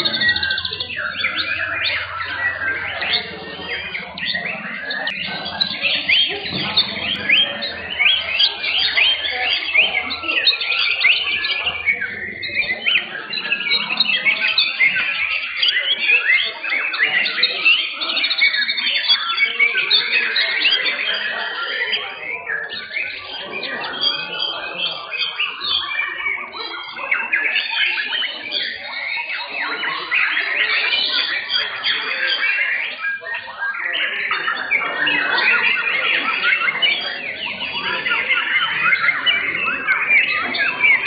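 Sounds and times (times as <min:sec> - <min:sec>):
birds chirping and whistling: 0:00.0 - 0:41.0.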